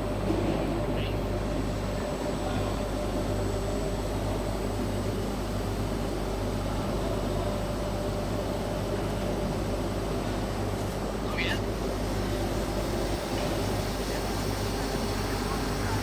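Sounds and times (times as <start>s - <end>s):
welding machine hum and hiss: 0.0s - 16.0s.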